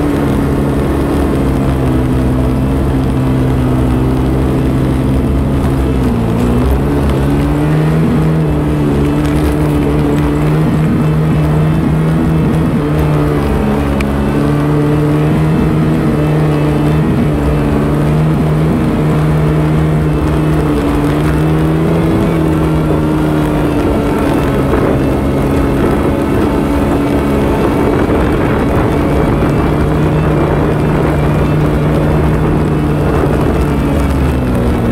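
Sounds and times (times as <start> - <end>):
quad bike engine running: 0.0 - 34.9.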